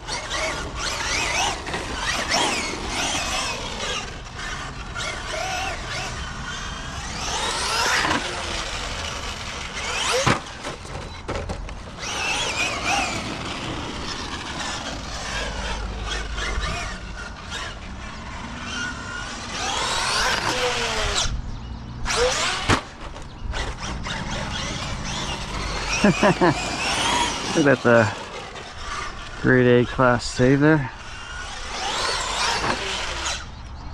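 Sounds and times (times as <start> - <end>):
rc truck motor whining: 0.0 - 33.9.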